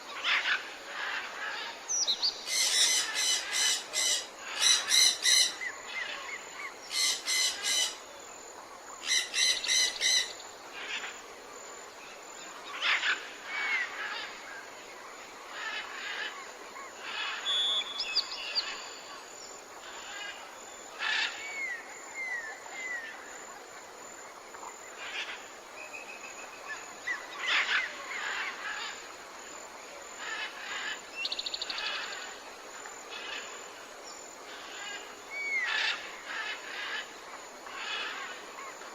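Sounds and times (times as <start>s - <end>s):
faint steady hiss: 0.0s - 38.9s.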